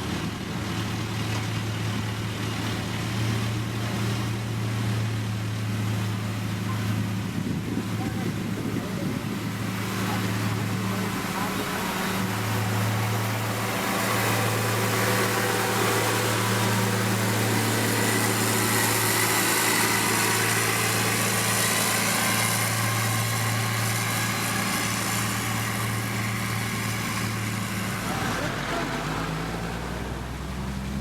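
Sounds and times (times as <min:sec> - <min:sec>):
heavy machine engine humming: 0:00.0 - 0:31.0.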